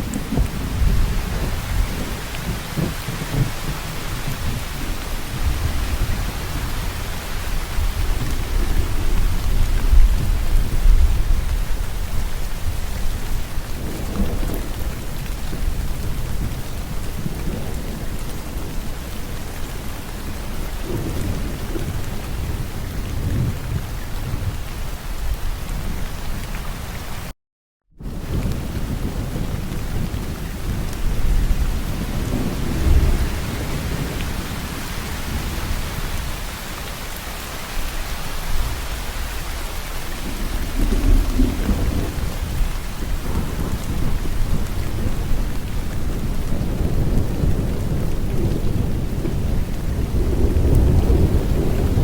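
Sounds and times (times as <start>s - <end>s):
rolling thunder: 0.0s - 26.0s, 28.0s - 36.7s, 38.2s - 52.0s
heavy rain: 0.0s - 27.3s, 28.0s - 52.0s.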